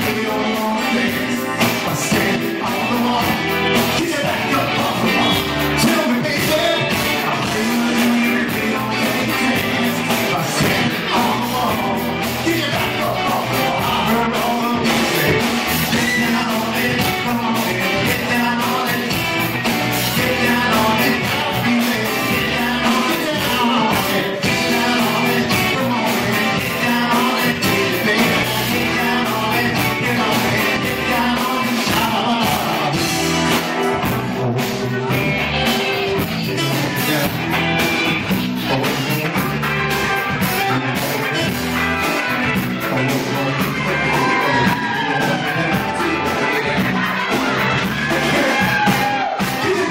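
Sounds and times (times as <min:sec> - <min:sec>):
man singing: 0:00.0 - 0:49.9
rock band playing: 0:00.0 - 0:49.9.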